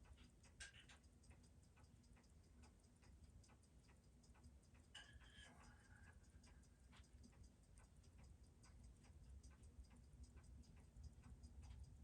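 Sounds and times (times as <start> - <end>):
watch movement ticking: 0.0 - 12.0.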